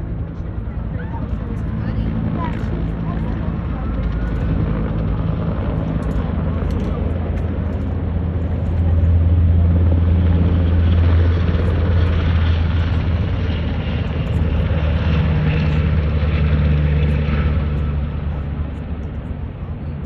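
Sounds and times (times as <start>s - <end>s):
helicopter rotor and engine drone: 0.0s - 20.0s.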